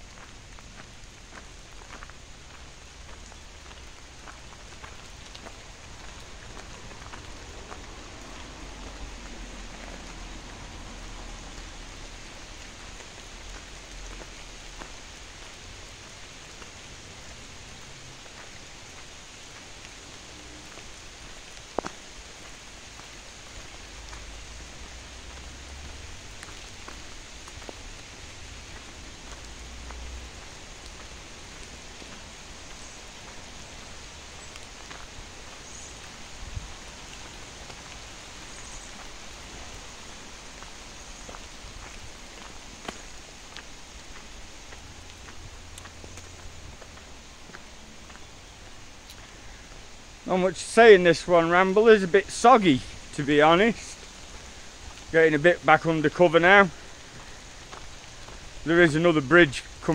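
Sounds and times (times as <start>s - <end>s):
raindrops tapping close by: 0.0s - 59.9s
steady rain hiss: 0.0s - 59.9s.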